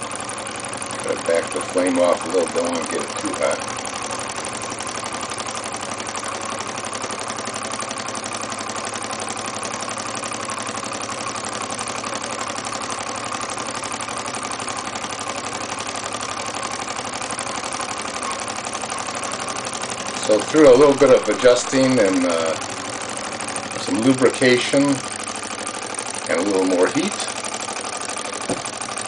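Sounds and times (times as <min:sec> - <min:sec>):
stirling engine mechanical clatter: 0:00.0 - 0:29.0.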